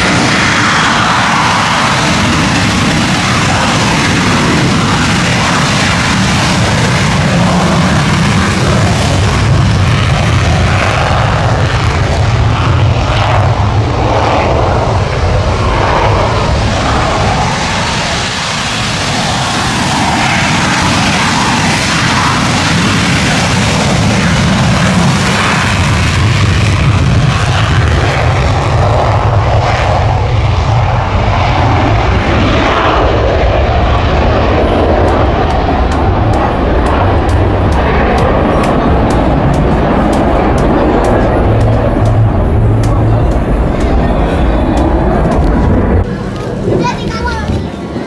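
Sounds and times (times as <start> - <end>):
jet engines roaring at takeoff: 0.0 - 48.0.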